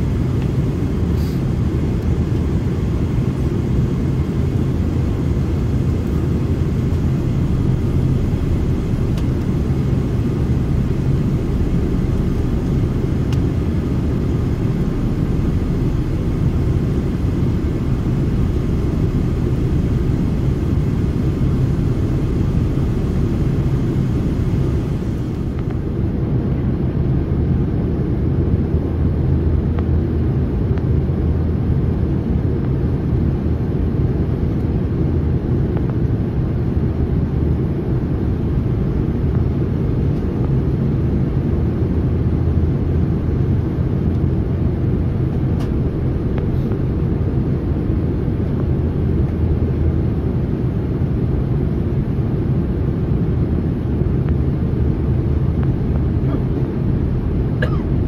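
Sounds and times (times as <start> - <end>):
jet cabin engine drone: 0.0 - 58.0.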